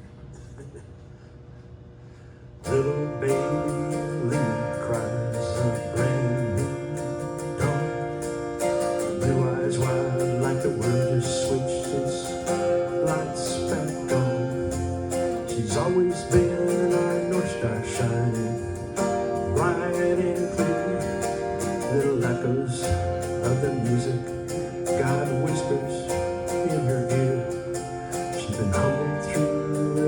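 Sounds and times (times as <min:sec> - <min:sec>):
acoustic guitar song intro: 0:02.6 - 0:30.0.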